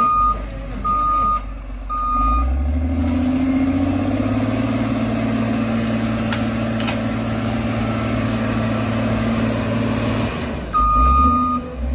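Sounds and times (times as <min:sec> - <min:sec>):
heavy machine engine running: 0:00.0 - 0:11.9.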